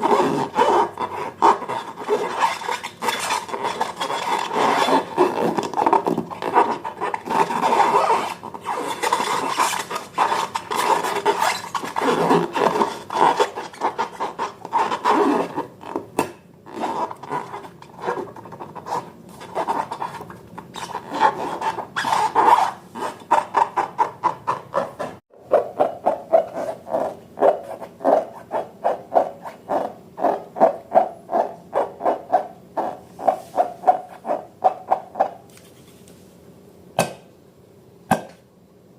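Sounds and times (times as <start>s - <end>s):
slime stirred and scraped in bowl: 0.0s - 15.8s, 16.8s - 36.2s.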